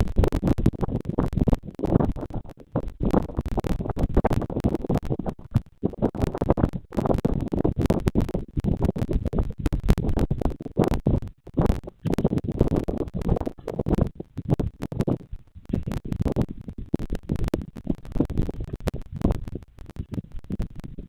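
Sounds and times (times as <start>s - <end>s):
scratching and crackling: 0.0s - 21.0s.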